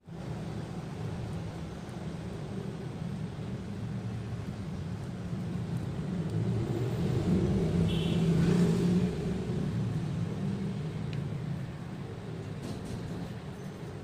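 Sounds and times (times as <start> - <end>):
passing motor vehicle rumble: 0.1 - 14.0.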